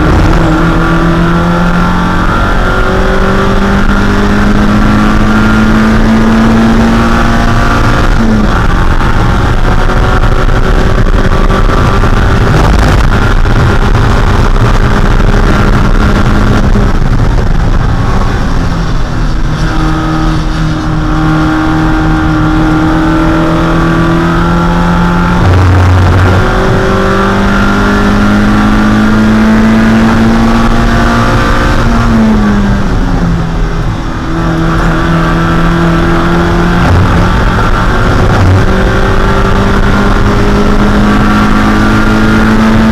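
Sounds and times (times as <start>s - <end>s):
racing car engine running hard: 0.0s - 42.9s
road and wind noise: 0.0s - 42.9s.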